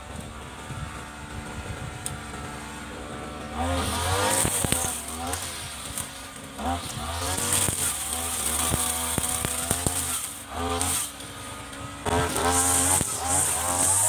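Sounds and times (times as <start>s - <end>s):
brush cutter engine revving: 0.0s - 14.0s.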